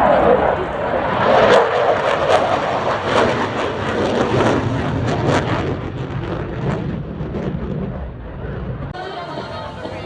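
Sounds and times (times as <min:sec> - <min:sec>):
jet aircraft passing: 0:00.0 - 0:10.0
wind buffeting microphone: 0:00.0 - 0:10.0.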